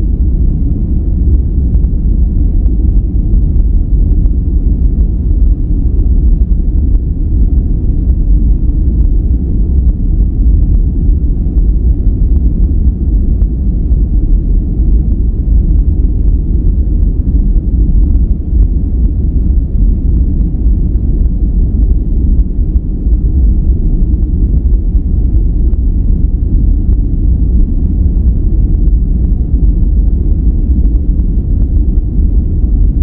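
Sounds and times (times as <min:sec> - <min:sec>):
deep brown noise: 0:00.0 - 0:33.0.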